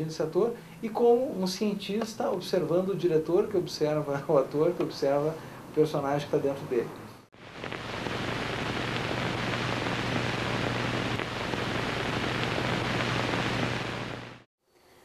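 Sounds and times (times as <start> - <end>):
low electrical hum: 0.0 - 14.4
static hiss: 0.0 - 14.5.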